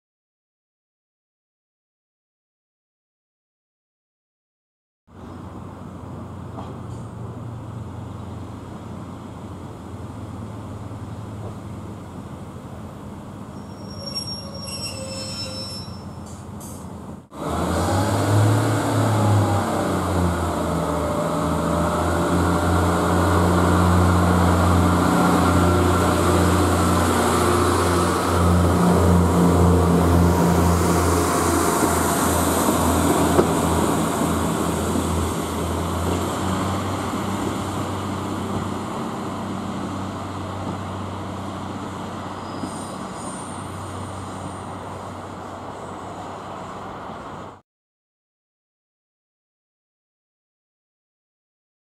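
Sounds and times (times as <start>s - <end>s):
diesel train engine drone: 5.1s - 47.6s.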